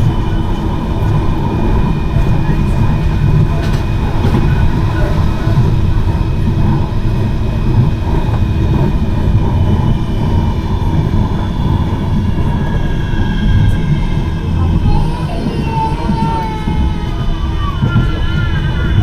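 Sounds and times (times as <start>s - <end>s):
faint whining drive: 0.0s - 19.0s
tram wheels rumbling on rail: 0.0s - 19.0s.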